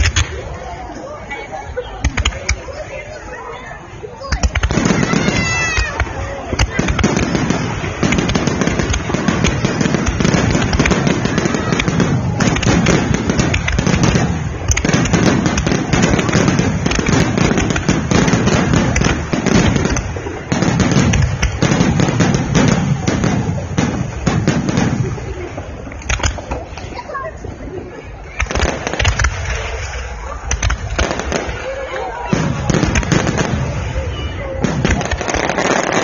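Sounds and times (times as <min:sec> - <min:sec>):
fireworks booming and crackling: 0:00.0 - 0:00.9, 0:01.9 - 0:03.4, 0:04.2 - 0:36.0.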